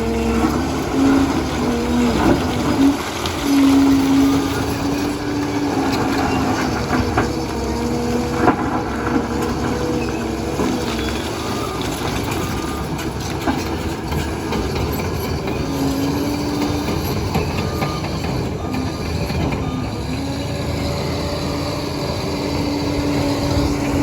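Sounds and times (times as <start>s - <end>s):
diesel engine running: 0.0s - 24.0s
steady whining tone: 0.0s - 24.0s
steel tracks clattering: 0.0s - 24.0s.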